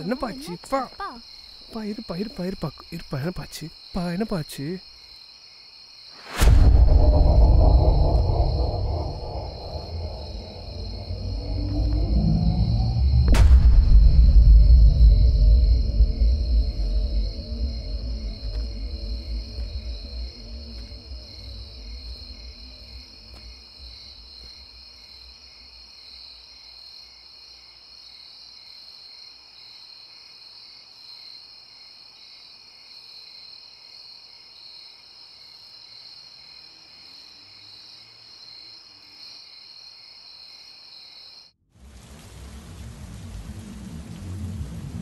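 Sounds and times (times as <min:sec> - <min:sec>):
crickets chirping: 0:00.0 - 0:41.6.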